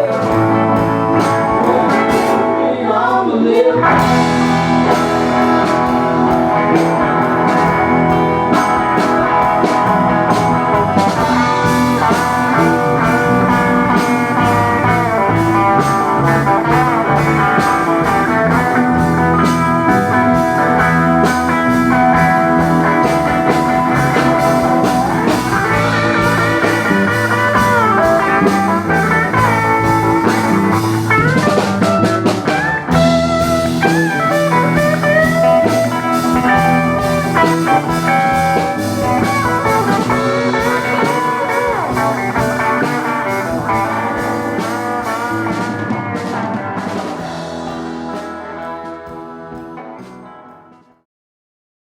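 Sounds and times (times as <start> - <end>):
guitar lead with bent notes: 0.0 - 51.0
live blues-rock band playing: 0.0 - 51.0.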